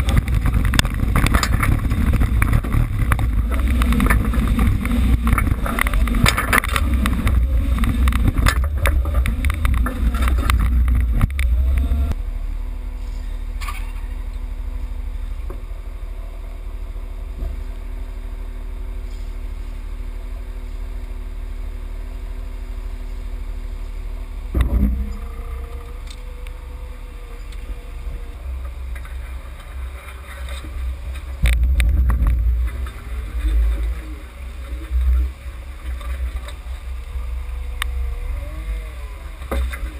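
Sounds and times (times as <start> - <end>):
low rumbling and knocking: 0.0 - 21.0, 24.0 - 39.9
vehicle engine idling: 0.0 - 39.9.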